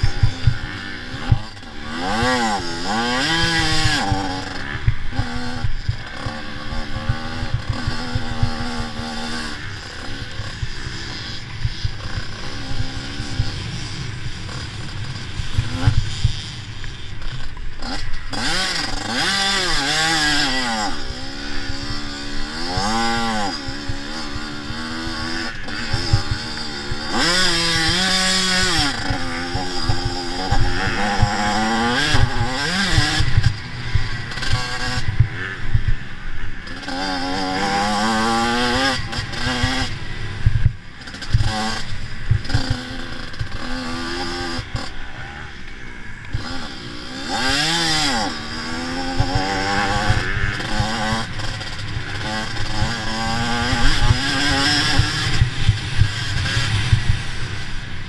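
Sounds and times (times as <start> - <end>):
motocross bikes racing: 0.0 - 58.0.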